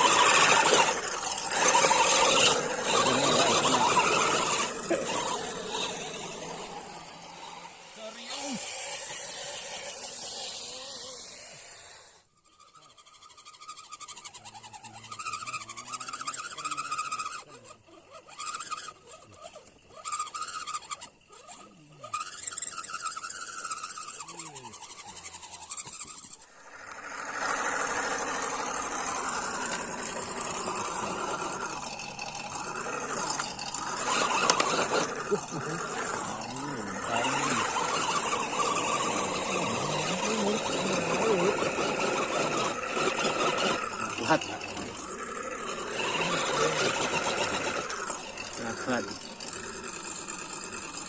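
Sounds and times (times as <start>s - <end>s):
toy car electric motor whining: 0.0s - 51.0s.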